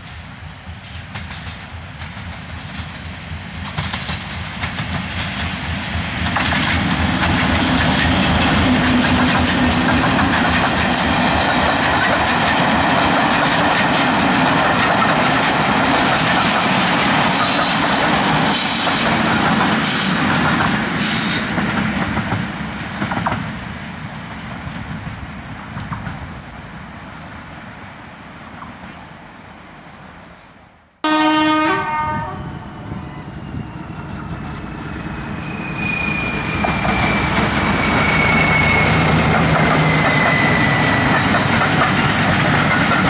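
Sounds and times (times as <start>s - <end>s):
train wheels clattering on rails: 0.0s - 26.9s, 33.4s - 43.0s
diesel locomotive engine: 0.0s - 29.0s, 31.0s - 43.0s.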